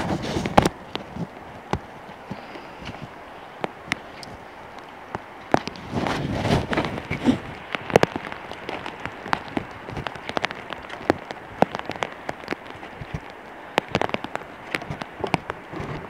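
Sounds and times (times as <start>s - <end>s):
footsteps on wet path: 0.0s - 16.0s
rain ticking on microphone: 0.0s - 16.0s.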